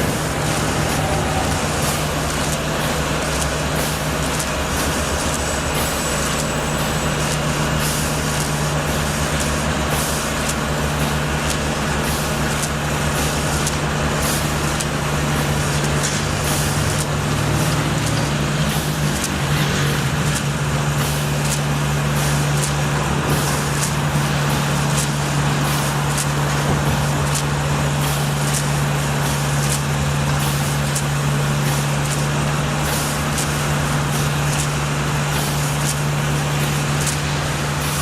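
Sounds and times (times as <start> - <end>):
heavy engine running: 0.0 - 38.0.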